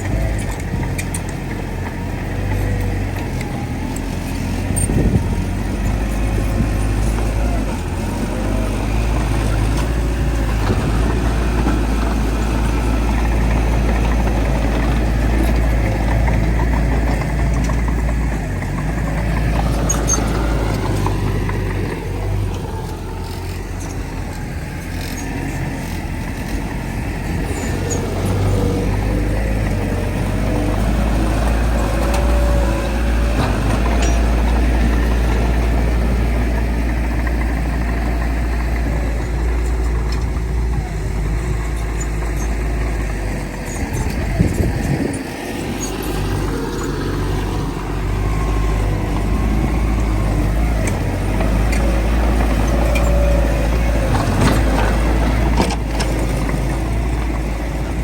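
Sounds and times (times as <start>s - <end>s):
heavy machinery deep rumble: 0.0s - 58.0s.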